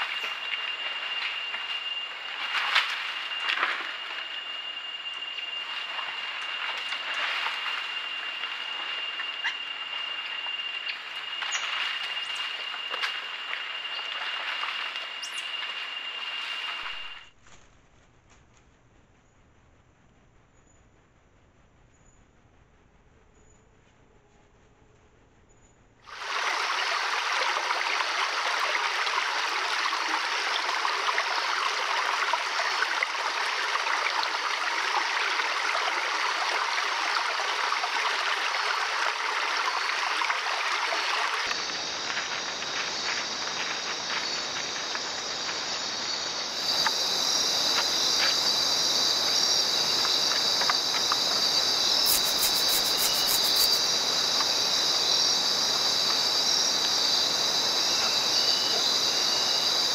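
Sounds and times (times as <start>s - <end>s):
stream running over rocks: 0.0s - 17.2s, 26.1s - 59.9s
insects trilling: 0.0s - 17.3s, 26.1s - 59.9s.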